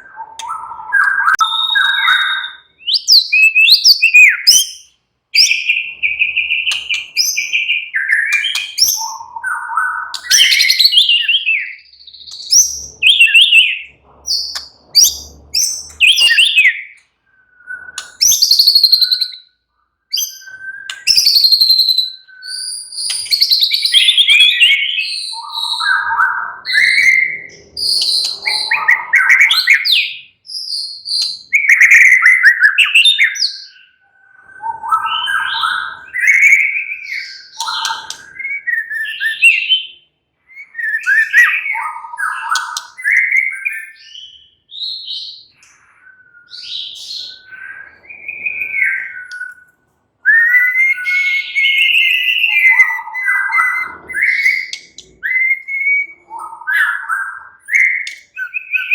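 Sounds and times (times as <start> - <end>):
bird singing whistles and chirps: 0.0 - 58.9.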